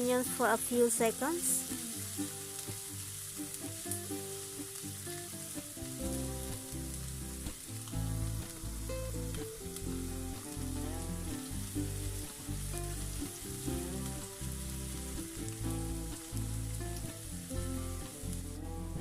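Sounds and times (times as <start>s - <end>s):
onion sizzling in oil: 0.0s - 19.0s
background music with bass line: 1.3s - 19.0s.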